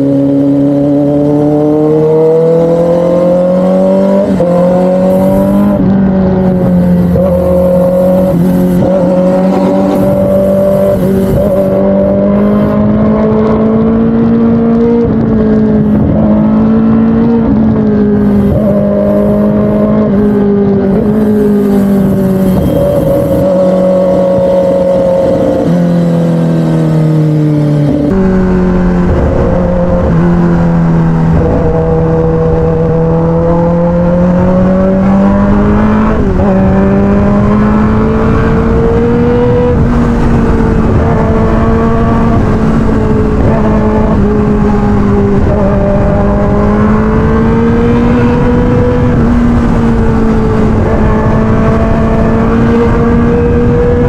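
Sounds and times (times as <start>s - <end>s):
motorcycle engine running: 0.0s - 54.0s
wind rumbling on microphone: 0.0s - 54.0s.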